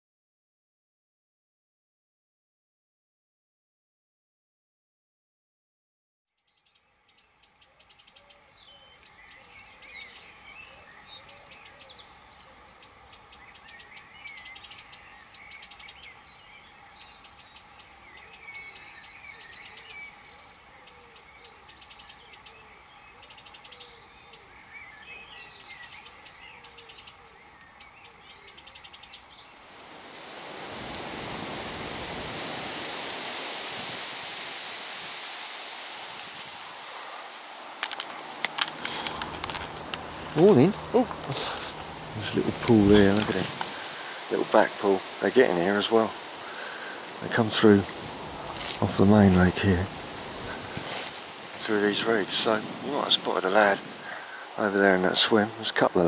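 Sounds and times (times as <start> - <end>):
songbirds chirping and trilling: 6.3 - 33.2, 36.1 - 56.0.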